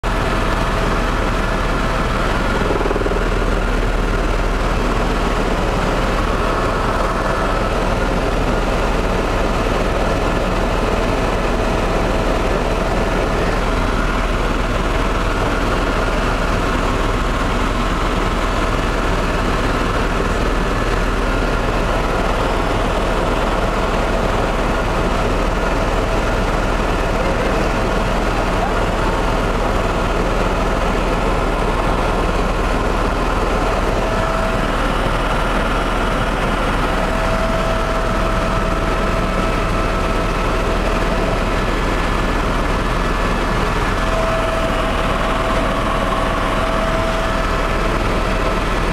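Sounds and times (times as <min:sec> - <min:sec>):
helicopter cabin drone: 0:00.0 - 0:48.9.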